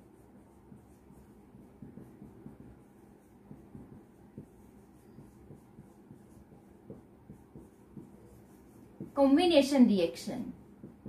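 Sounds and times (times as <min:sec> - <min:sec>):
marker writing on whiteboard: 0:00.0 - 0:11.0.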